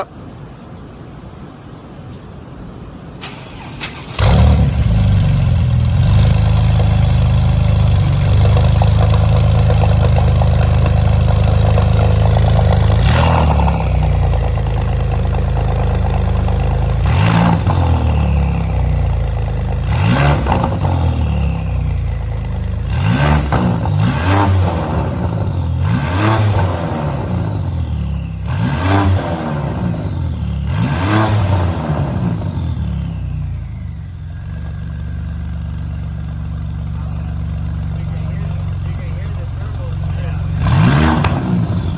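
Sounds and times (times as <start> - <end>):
car engine starting and idling: 1.1 - 41.9
engine revving: 3.2 - 34.8, 36.8 - 41.9.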